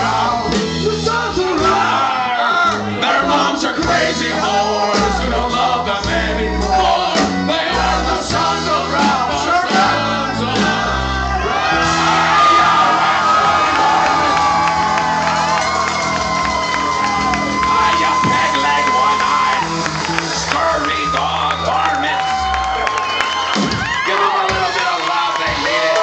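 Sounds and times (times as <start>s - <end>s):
men singing and shouting: 0.0s - 22.5s, 23.8s - 26.0s
electric guitars: 0.0s - 24.0s
bass guitar: 0.0s - 24.7s.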